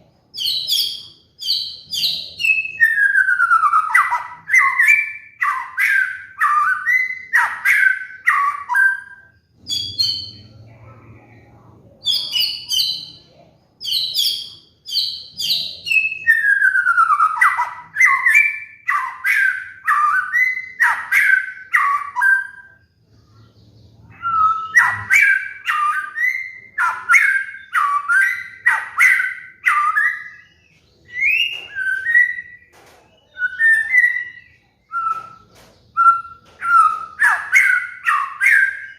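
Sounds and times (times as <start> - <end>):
bird singing whistled notes: 0.0 - 10.6, 12.0 - 38.9.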